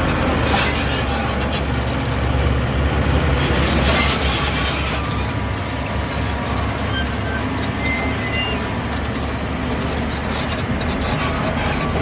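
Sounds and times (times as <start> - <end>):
diesel engine drone: 0.0 - 12.0
rough mechanical rumble: 0.0 - 12.0.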